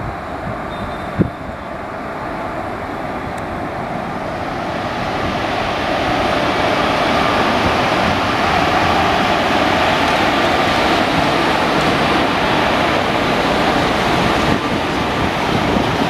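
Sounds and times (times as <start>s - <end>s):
train wheels on rail: 0.0s - 16.0s.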